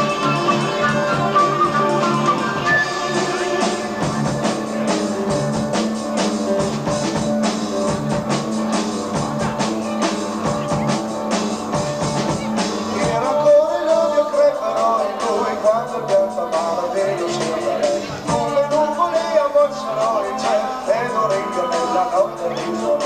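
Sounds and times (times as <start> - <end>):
busy drum kit: 0.0 - 23.0
rock band playing live: 0.0 - 23.0.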